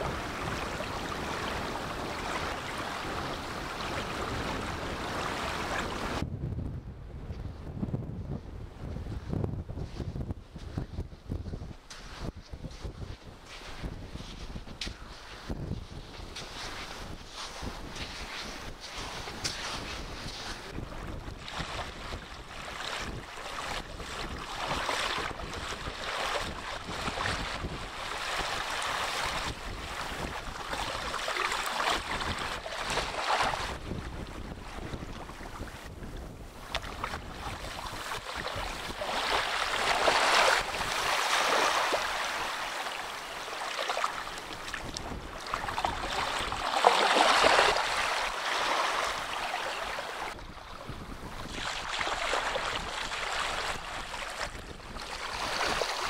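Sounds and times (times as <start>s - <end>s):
small waves breaking: 0.0s - 6.2s, 16.1s - 35.9s, 36.5s - 56.0s
wind rumble on microphone: 0.0s - 56.0s.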